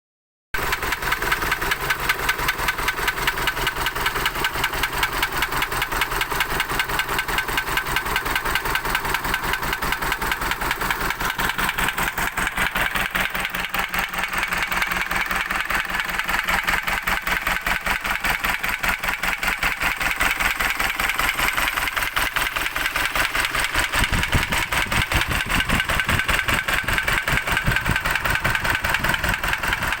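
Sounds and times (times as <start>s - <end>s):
diesel engine knocking at idle: 0.6s - 30.0s.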